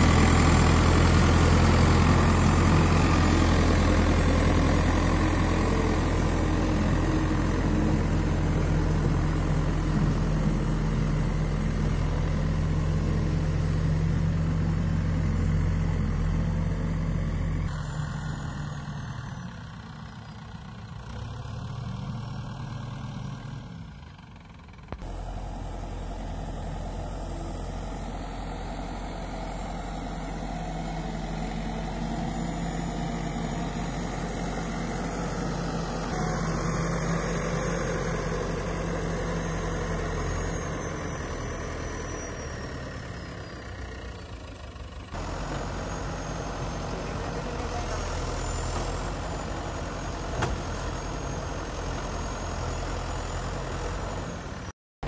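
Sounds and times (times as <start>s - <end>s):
diesel engine running: 0.0s - 54.7s.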